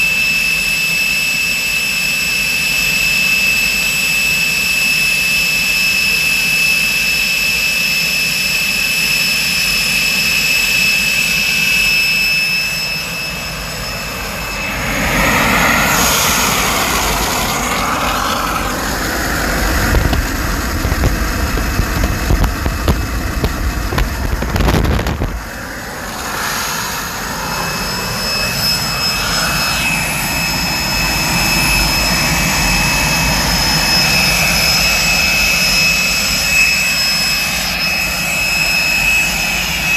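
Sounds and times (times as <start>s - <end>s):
compressor whine: 0.0s - 39.9s
jet engine roar: 0.0s - 39.9s.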